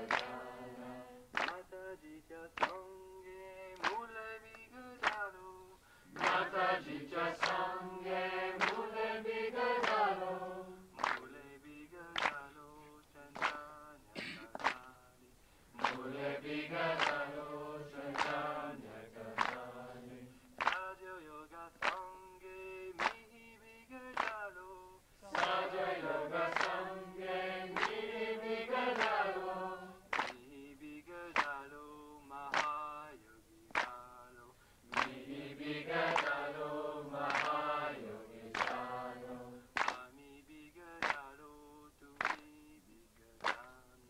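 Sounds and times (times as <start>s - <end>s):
voices chanting a devotional song: 0.0s - 44.0s.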